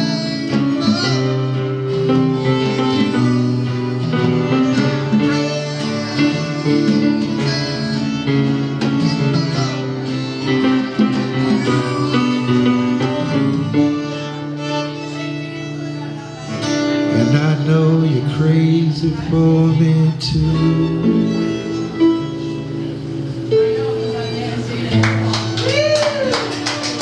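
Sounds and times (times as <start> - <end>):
live band playing: 0.0 - 27.0
sustained guitar notes: 0.0 - 27.0.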